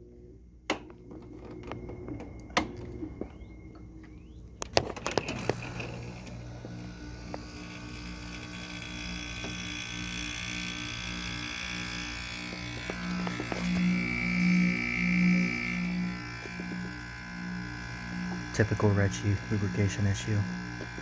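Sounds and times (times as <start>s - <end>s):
air conditioner compressor humming: 0.0s - 21.0s.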